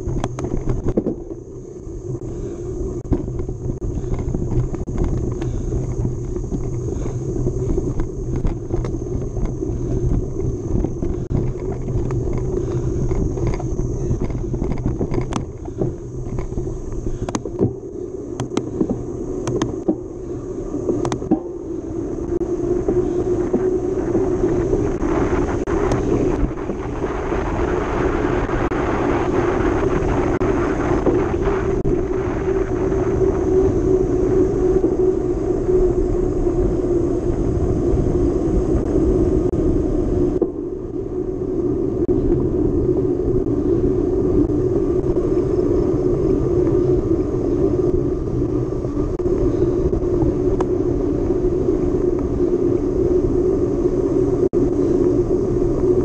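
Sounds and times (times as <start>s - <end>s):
bike riding rumble: 0.0s - 56.0s
wind buffeting microphone: 0.0s - 56.0s.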